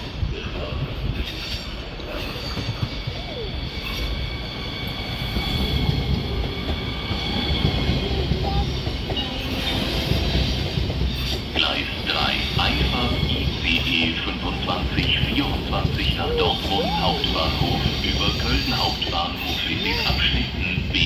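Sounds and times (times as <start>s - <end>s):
train rumbling past: 0.0s - 21.0s
high-pitched train whine: 0.8s - 21.0s.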